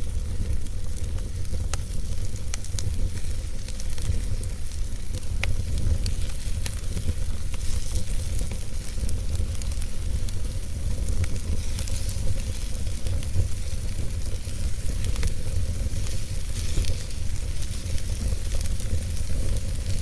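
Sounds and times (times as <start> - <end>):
steady hiss: 0.0 - 20.0
wood fire crackling: 0.0 - 20.0.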